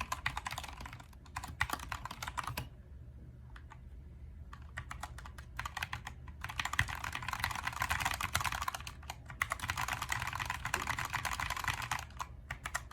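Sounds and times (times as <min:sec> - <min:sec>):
fast typing on mechanical keyboard: 0:00.0 - 0:02.7, 0:04.5 - 0:12.9.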